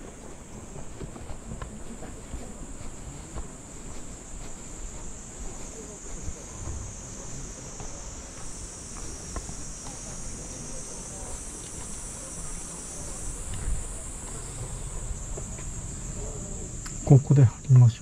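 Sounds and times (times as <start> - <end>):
faint footsteps: 0.0 - 17.7
high-pitched insect chorus: 0.0 - 18.0.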